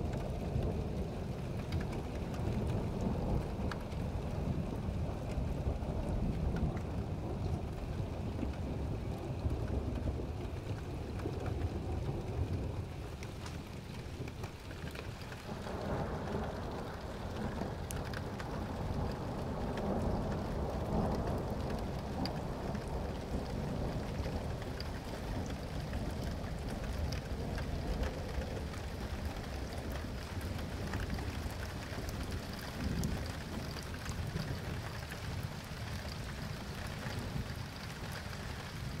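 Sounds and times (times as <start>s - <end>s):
low rumble of thunder: 0.0s - 39.0s
raindrops ticking close by: 0.0s - 39.0s
steady rain falling: 0.0s - 39.0s.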